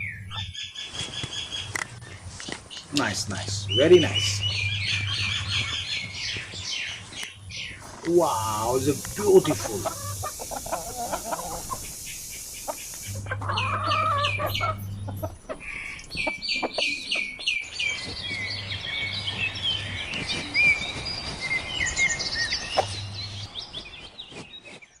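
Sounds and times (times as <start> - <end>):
hen clucking: 0.0 - 20.8, 22.2 - 23.5
chicks peeping: 0.0 - 24.8.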